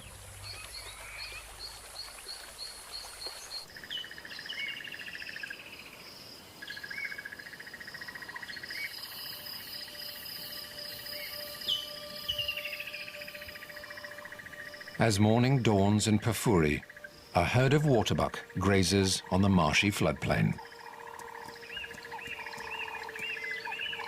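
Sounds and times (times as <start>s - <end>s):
insects trilling: 0.5s - 24.0s.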